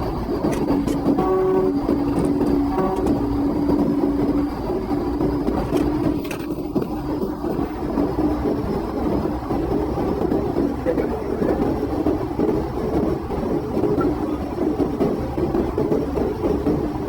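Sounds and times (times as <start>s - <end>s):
car engine drone: 0.0s - 17.0s
road and wind noise: 0.0s - 17.0s.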